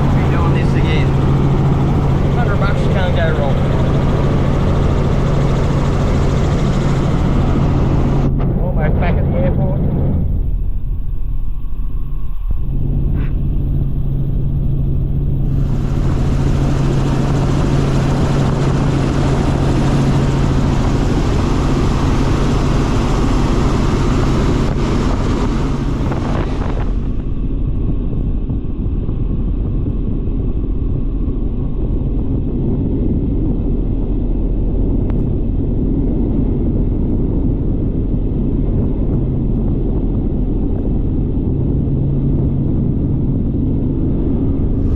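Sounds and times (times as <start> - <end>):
helicopter engine and rotors droning: 0.0 - 44.9.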